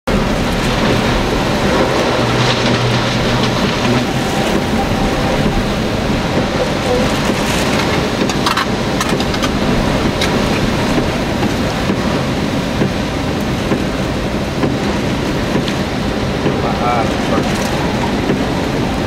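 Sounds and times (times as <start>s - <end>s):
power line crackles: 0.1s - 19.0s
wind and rain on microphone: 0.1s - 19.0s.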